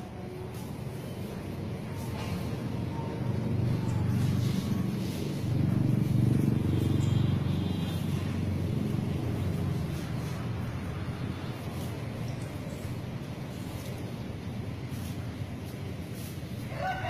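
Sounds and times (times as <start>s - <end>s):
low steady rumbling: 0.0s - 16.6s.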